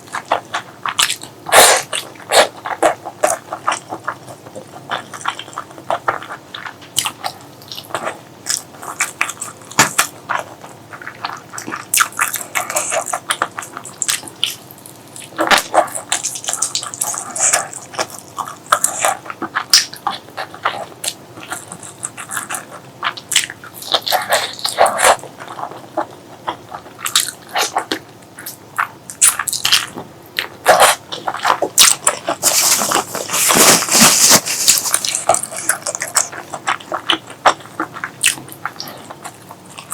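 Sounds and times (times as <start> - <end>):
chewing and lip-smacking: 0.0 - 39.9.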